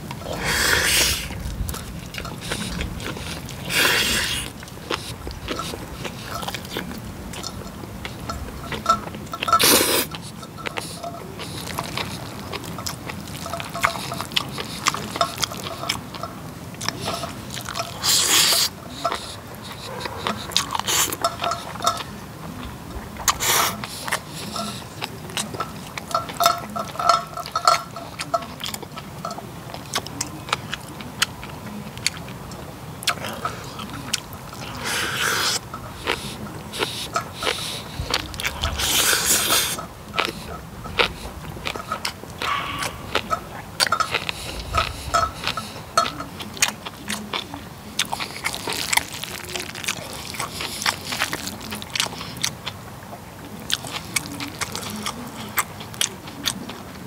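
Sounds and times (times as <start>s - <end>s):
chewing and mouth smacking: 0.0s - 57.0s.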